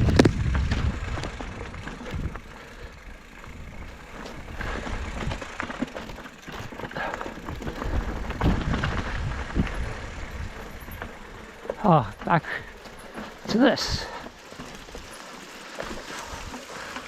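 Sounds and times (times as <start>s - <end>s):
bike knocking and rattling: 0.0s - 17.0s
bike tyres rumbling on rocky trail: 0.0s - 17.0s.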